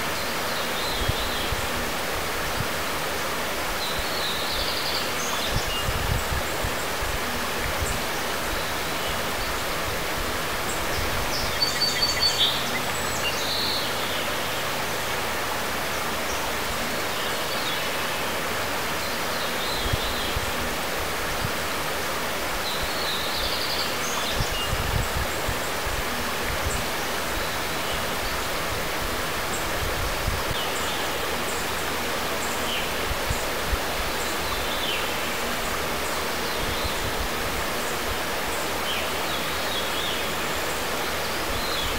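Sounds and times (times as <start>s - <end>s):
birds calling: 0.0s - 41.9s
river flowing over cobbles: 0.0s - 41.9s.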